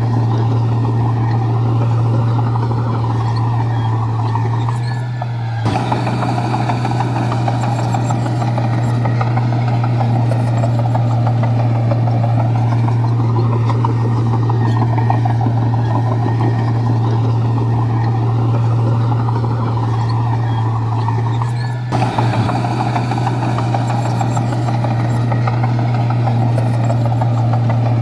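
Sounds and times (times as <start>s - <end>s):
diesel engine low drone: 0.0s - 28.0s.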